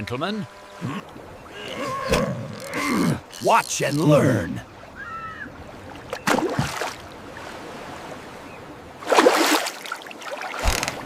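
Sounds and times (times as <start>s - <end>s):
steady water ambience: 0.0s - 11.0s.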